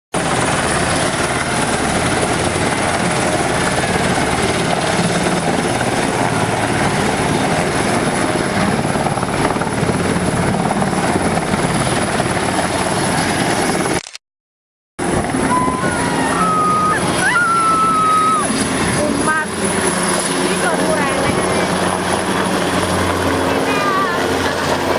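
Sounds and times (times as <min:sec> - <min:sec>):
helicopter running: 0:00.2 - 0:14.0, 0:15.0 - 0:24.9.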